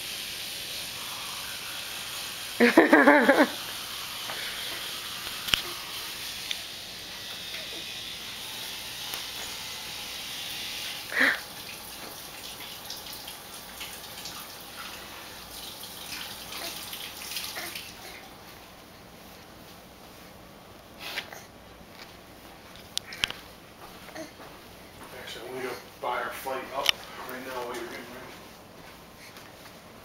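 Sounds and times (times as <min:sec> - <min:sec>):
steady hiss: 0:00.0 - 0:21.3, 0:24.8 - 0:30.0.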